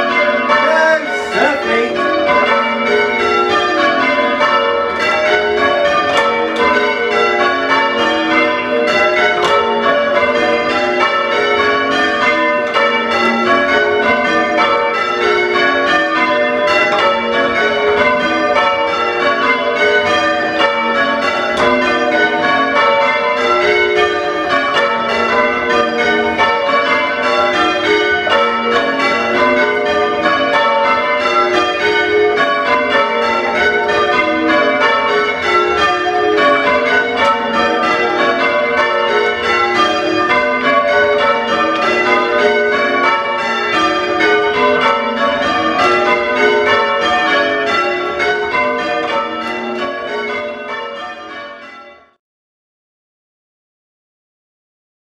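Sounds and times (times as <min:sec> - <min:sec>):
church bells ringing: 0:00.0 - 0:52.2.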